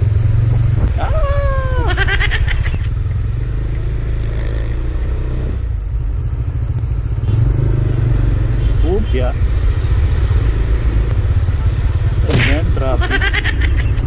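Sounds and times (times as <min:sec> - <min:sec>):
motorcycle engine exhaust rumble: 0:00.0 - 0:14.0.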